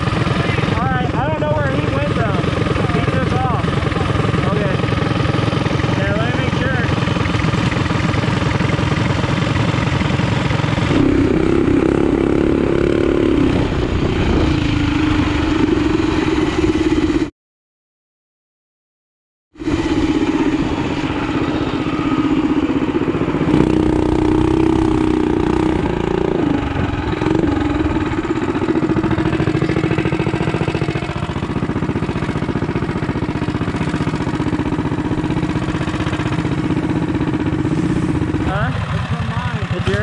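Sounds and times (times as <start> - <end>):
mini bike engine running: 0.0 - 17.3, 19.6 - 40.0.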